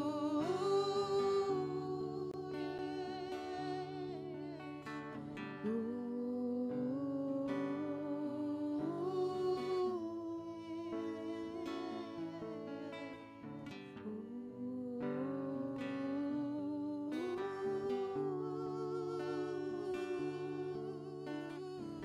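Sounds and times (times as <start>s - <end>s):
plucked string accompaniment: 0.0s - 22.0s.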